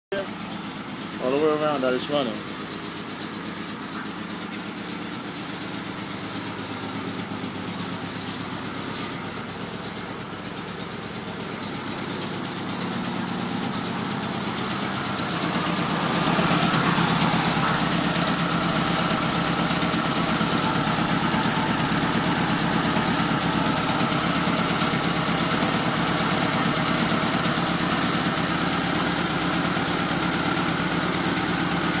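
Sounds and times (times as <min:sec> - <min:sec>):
car engine idling: 0:00.1 - 0:32.0.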